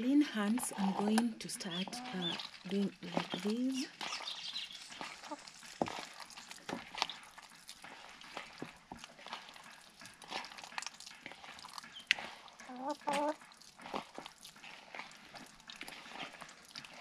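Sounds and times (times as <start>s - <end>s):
hands squelching wet pulp: 0.0s - 17.0s.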